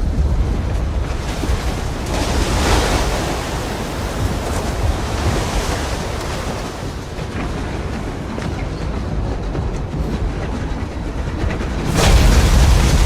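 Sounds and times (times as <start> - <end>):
avalanche rumble of sliding snow: 0.0 - 13.0.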